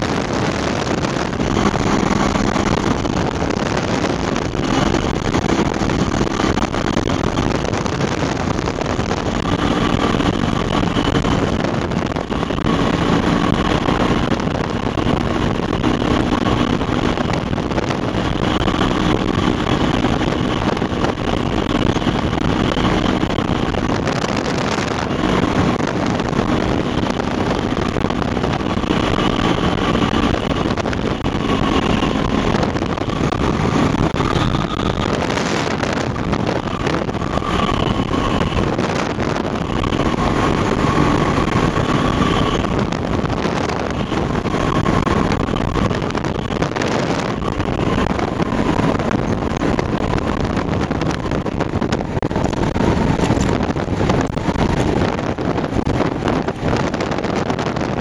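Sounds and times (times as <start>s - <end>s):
light aircraft engine in flight: 0.0s - 58.0s
wind rush: 0.0s - 58.0s.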